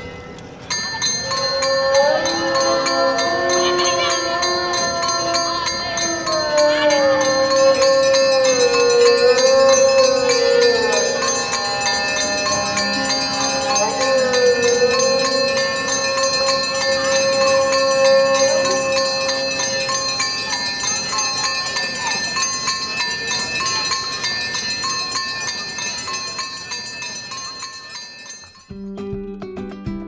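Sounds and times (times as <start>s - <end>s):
many bells jangling: 0.0s - 28.8s.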